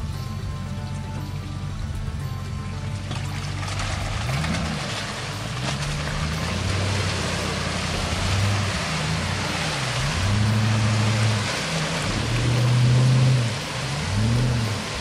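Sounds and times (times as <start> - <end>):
water splashing and churning: 0.0 - 15.0
car engine revving: 2.8 - 15.0.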